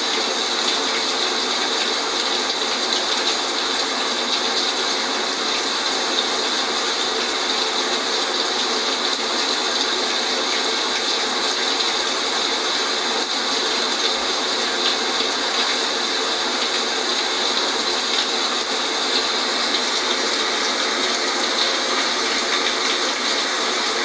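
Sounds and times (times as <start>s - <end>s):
steady rain rushing: 0.0s - 24.0s.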